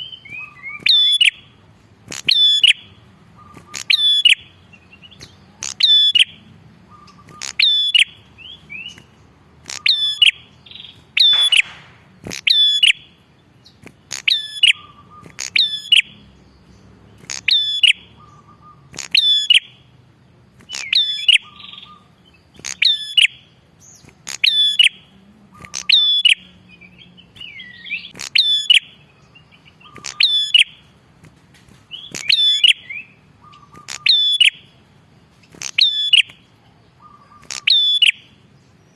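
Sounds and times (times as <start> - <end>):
bird singing high looping notes: 0.0 - 31.0, 31.9 - 38.9.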